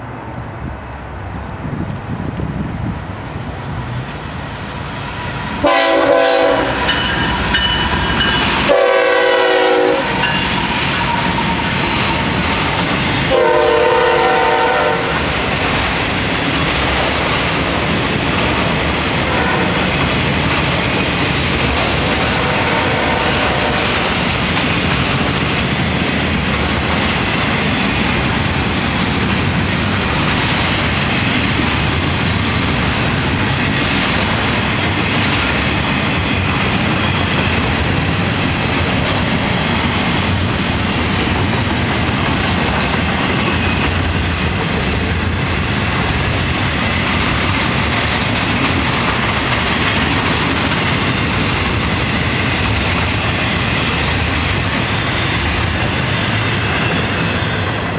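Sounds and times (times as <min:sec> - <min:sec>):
train wheels rolling on rail: 0:00.0 - 0:57.9.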